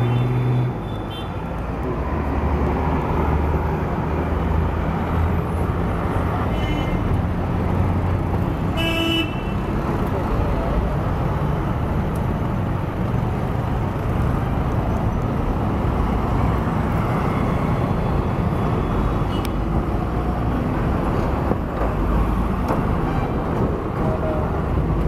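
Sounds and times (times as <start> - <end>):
car engines passing: 0.0 - 25.0.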